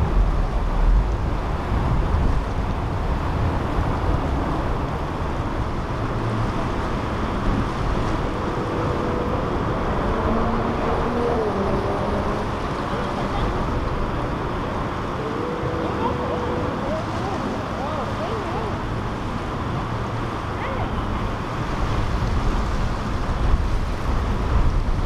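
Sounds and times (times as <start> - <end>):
powerboat engines passing: 0.0 - 25.0
water noise: 0.0 - 25.0
wind: 0.0 - 25.0.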